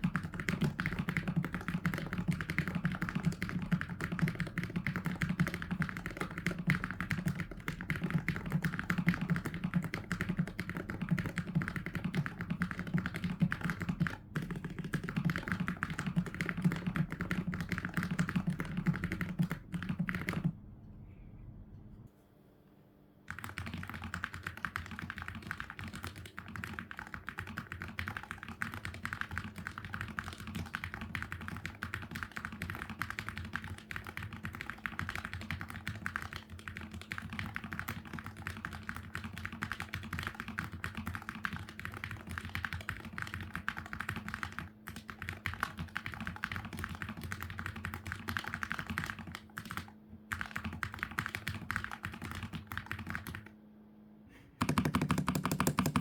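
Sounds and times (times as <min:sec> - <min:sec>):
keyboard typing clicks: 0:00.0 - 0:20.5, 0:23.3 - 0:53.5, 0:54.6 - 0:56.0.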